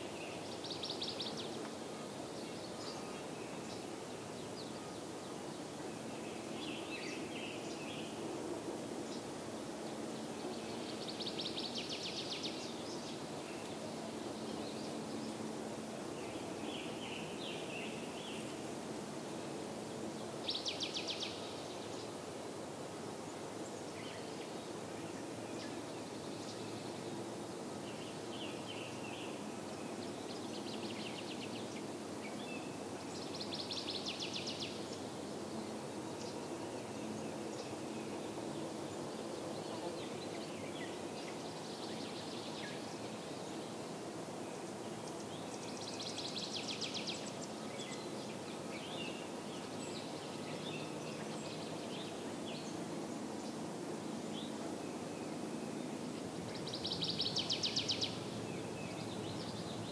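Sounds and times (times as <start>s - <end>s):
low background noise: 0.0s - 59.9s
songbirds singing: 0.0s - 59.9s.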